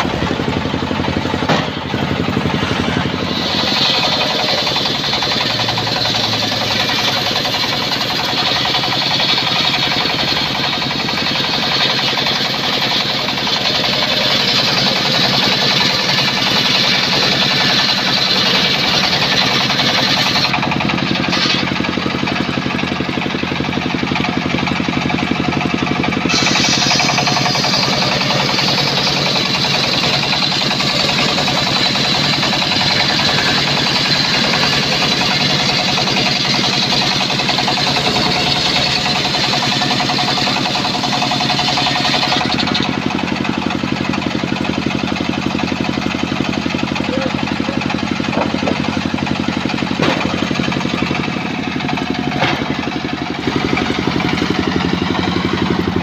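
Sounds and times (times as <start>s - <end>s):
saw blade cutting wood: 0.0s - 24.9s, 25.8s - 45.8s, 46.5s - 56.0s
machine running hum: 0.0s - 56.0s.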